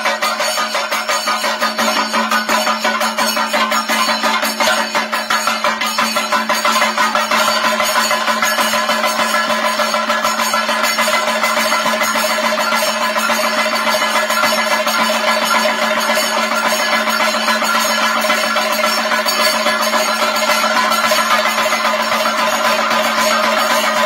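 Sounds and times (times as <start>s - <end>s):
drums struck rapidly with sticks: 0.0s - 24.0s
hand cymbals clashing: 0.0s - 24.0s.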